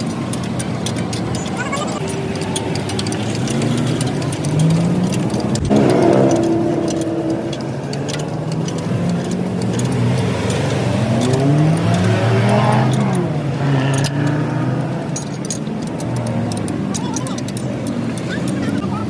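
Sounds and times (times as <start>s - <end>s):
sharp metallic ticks: 0.0s - 19.0s
truck engine revving: 0.0s - 19.0s.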